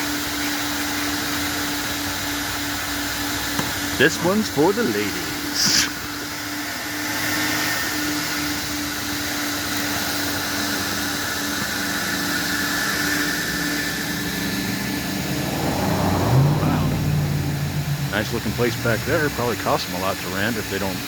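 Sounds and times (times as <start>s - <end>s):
vacuum running: 0.0s - 21.0s.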